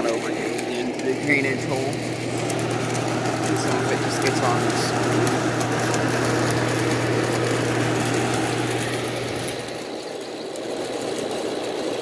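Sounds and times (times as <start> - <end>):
air conditioner fan rushing: 0.0 - 12.0.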